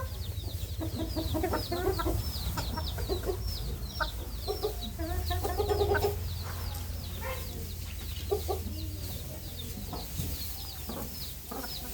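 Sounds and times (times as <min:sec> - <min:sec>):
chickens clucking: 0:00.0 - 0:11.9
chicks cheeping: 0:00.0 - 0:11.9.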